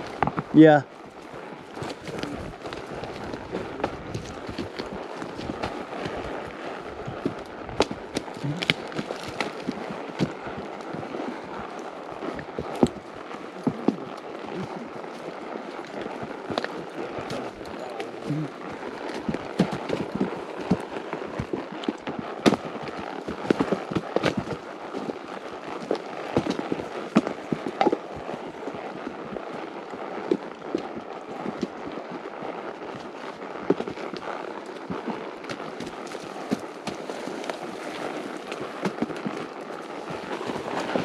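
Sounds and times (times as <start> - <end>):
dry wood cracking and snapping: 0.0 - 28.5, 33.6 - 41.0.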